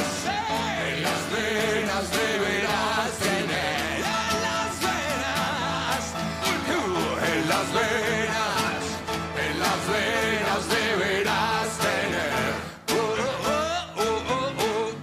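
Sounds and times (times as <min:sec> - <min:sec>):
man singing: 0:00.0 - 0:15.0
piano: 0:00.0 - 0:15.0
strummed acoustic guitar: 0:00.0 - 0:15.0.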